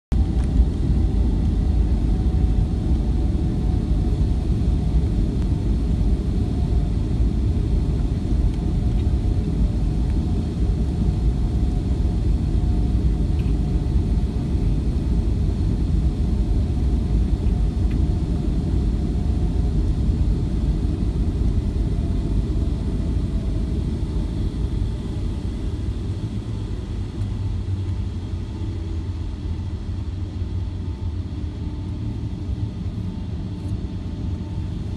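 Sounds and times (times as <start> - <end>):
airliner cabin engine rumble: 0.1 - 34.9.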